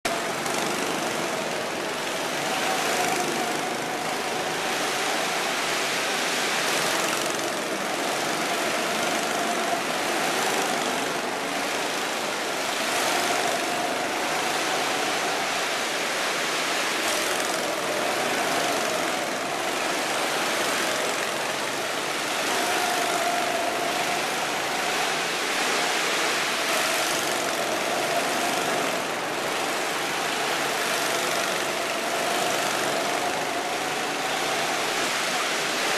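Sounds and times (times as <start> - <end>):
go-kart engines droning: 0.0 - 35.9.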